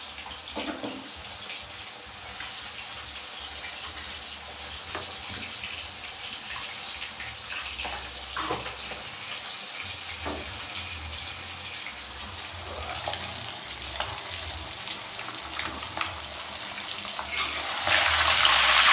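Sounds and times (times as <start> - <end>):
oil sizzling in a wok: 0.0 - 18.9.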